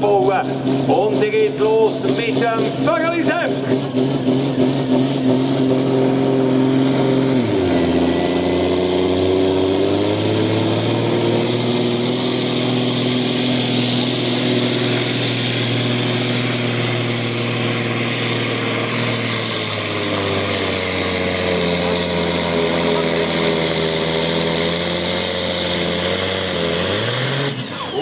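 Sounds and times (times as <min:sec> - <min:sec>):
tractor engine at full revs: 0:00.0 - 0:28.0.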